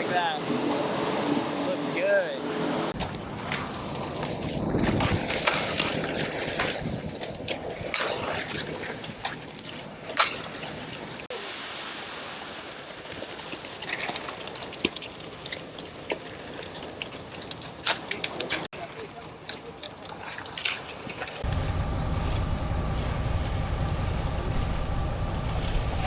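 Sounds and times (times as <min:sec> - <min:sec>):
wet concrete pouring and sloshing: 0:03.0 - 0:26.0.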